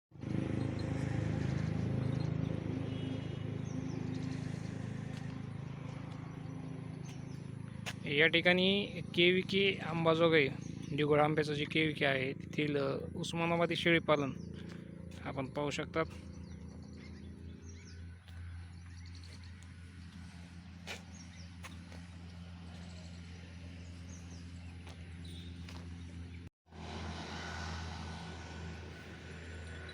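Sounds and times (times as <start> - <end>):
low motor hum: 0.2 - 29.9
vehicle engine idling: 0.2 - 29.9.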